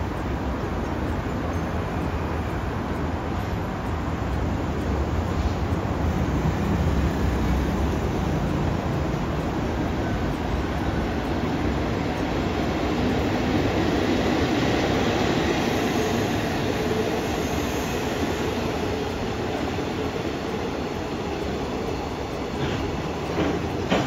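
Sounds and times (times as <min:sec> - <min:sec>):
train wheels rumbling: 0:00.0 - 0:24.0.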